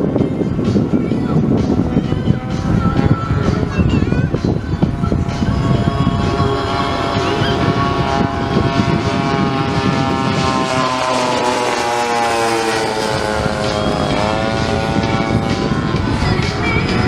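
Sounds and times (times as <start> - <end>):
model plane propeller engines: 0.0 - 17.0.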